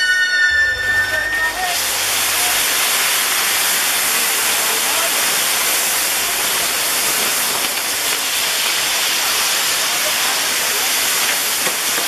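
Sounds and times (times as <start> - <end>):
firework fountain hissing: 0.6 - 12.0.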